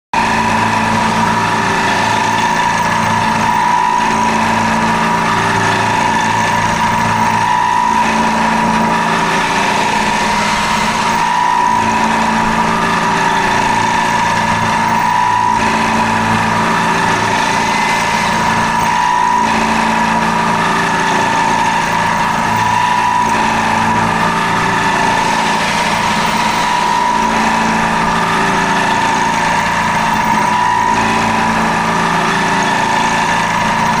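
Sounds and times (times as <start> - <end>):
low machine hum: 0.2 - 34.0
milling machine high whine: 0.2 - 34.0.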